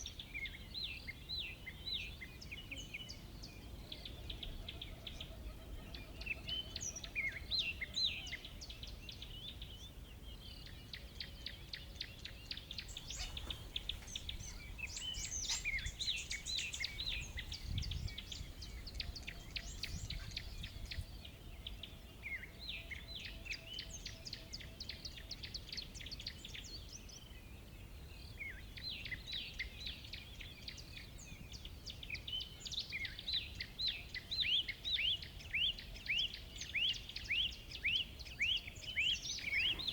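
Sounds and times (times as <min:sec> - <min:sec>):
wild birds chirping and singing: 0:00.0 - 0:39.9.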